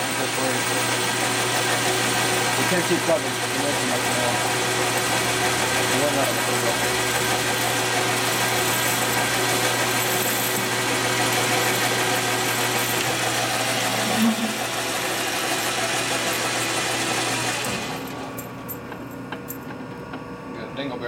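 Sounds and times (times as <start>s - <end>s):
boring bar cutting steel: 0.0s - 18.4s
machine tool motor hum: 0.0s - 20.4s.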